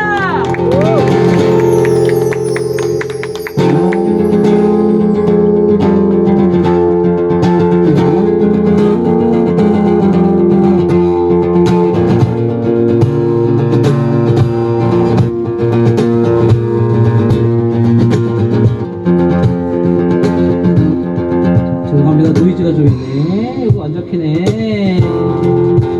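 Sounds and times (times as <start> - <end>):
guitar music: 0.0 - 25.9.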